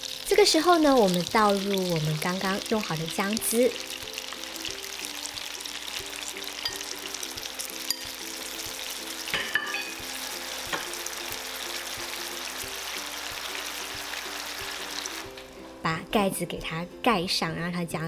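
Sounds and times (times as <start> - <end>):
chicken wings sizzling in a pan: 0.0 - 15.5
soft background melody: 0.0 - 18.0.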